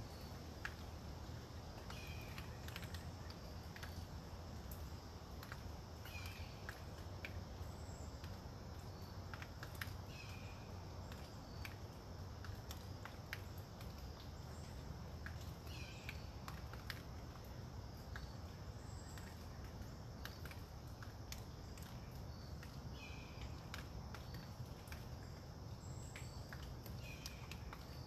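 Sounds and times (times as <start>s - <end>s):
wind in the woods: 0.0s - 28.0s
light ticks: 0.6s - 10.4s, 11.0s - 28.0s.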